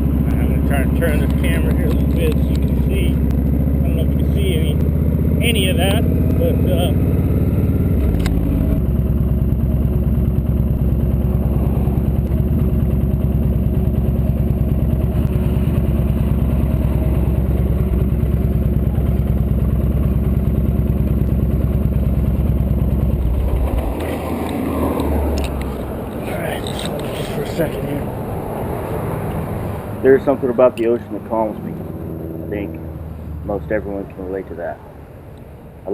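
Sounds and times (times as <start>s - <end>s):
motorcycle engine running: 0.0s - 34.5s.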